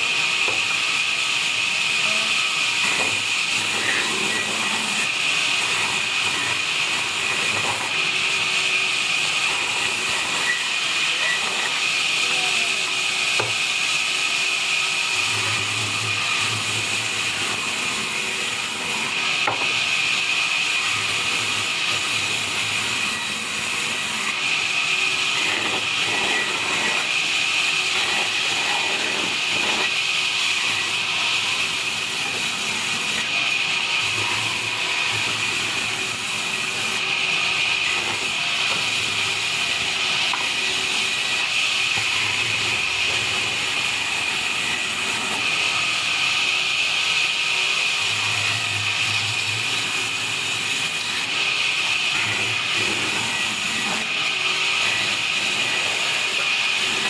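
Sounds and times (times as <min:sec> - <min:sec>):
band saw cutting logs: 0:00.0 - 0:57.0.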